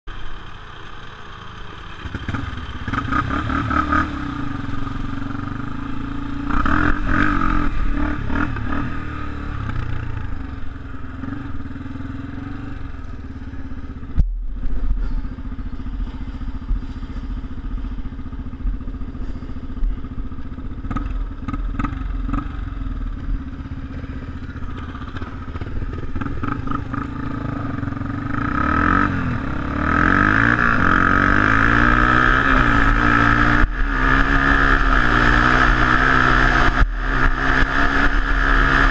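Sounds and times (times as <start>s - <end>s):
dirt bike engines: 0.1s - 38.9s
quad engine running: 0.1s - 38.9s.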